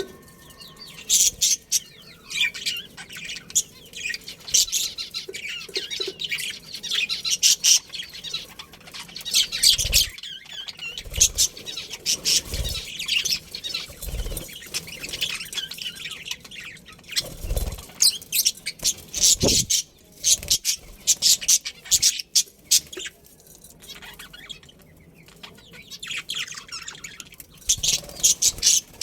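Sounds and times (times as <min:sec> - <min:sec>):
budgerigars chirping and warbling: 0:00.0 - 0:29.0.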